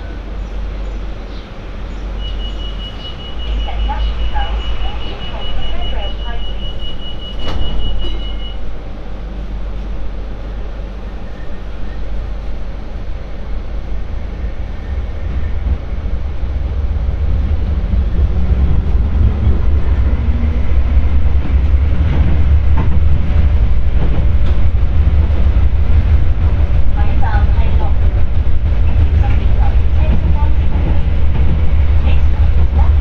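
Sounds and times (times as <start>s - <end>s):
light rail train rumble: 0.0s - 33.0s.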